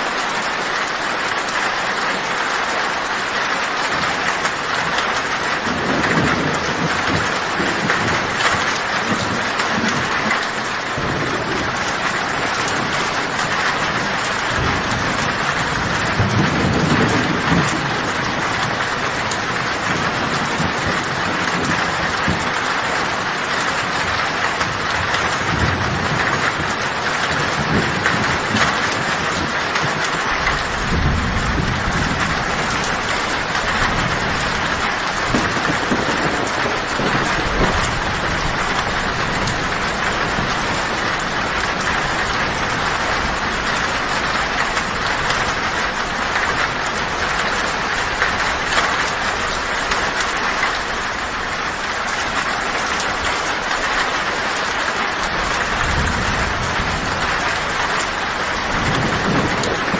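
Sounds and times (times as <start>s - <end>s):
heavy rain on a tin roof: 0.0s - 59.9s
low thunder rumbling: 3.0s - 59.9s.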